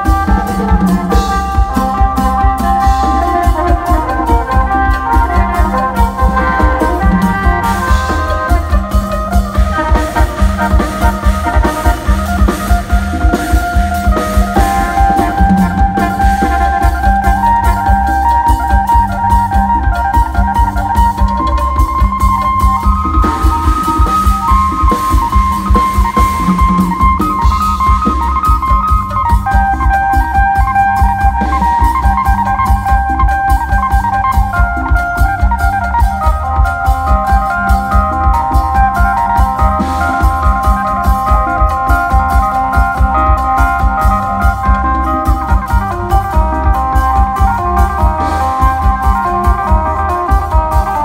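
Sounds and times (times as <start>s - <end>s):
drum-kit beat: 0.0s - 51.0s
electric bass: 0.0s - 51.0s
electric lute melody: 0.0s - 51.0s.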